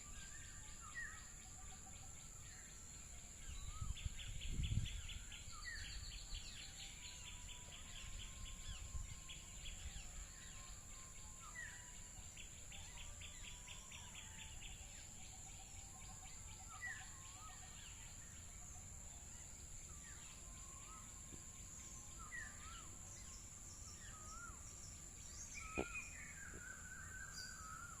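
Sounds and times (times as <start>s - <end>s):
birds calling and trilling: 2.2s - 28.0s.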